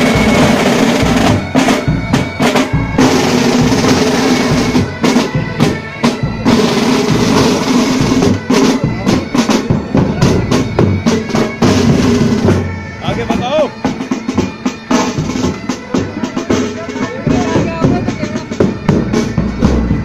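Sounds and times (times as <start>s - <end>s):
bagpipes drone and melody: 0.0s - 20.0s
side drums rolls: 0.0s - 20.0s.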